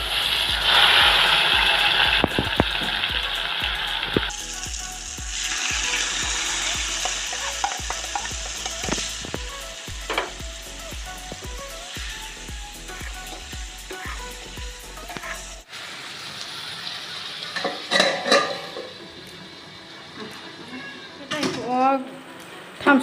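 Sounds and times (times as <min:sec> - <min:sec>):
chicken sizzling in oil: 0:00.0 - 0:21.3.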